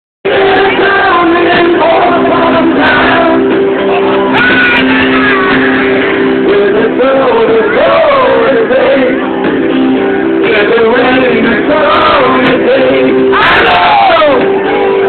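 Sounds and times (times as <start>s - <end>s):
person singing: 0.2s - 15.0s.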